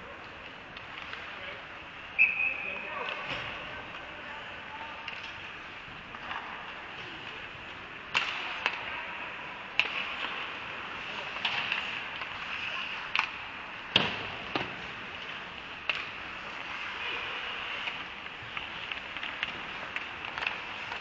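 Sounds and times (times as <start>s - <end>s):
hockey sticks and puck clacking: 0.1s - 21.0s
skates scraping on ice: 2.8s - 21.0s.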